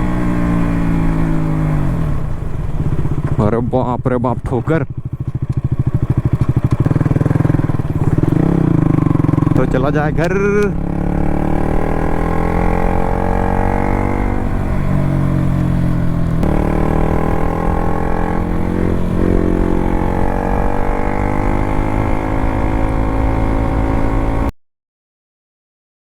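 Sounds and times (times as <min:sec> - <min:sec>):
motorcycle engine running: 0:00.0 - 0:24.5.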